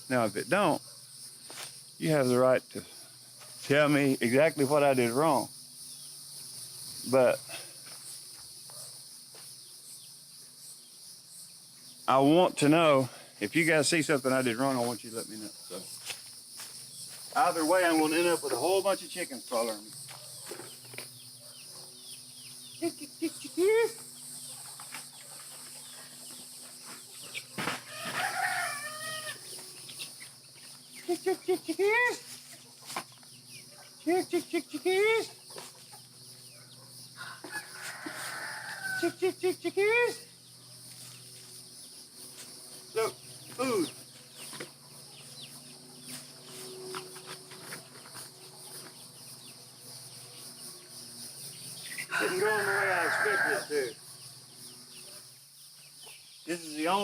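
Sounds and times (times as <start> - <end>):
high insect drone: 0.0 - 57.0
young chickens calling: 0.0 - 57.0.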